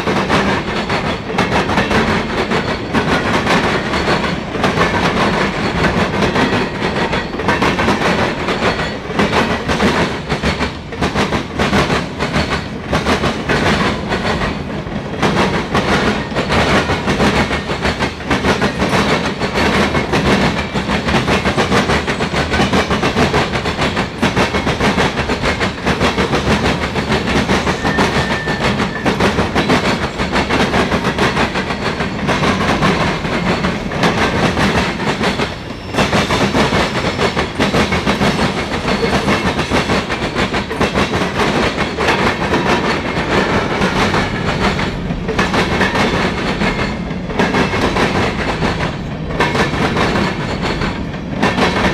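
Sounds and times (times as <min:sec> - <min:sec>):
train wheels clacking over rail joints: 0:00.0 - 0:51.9.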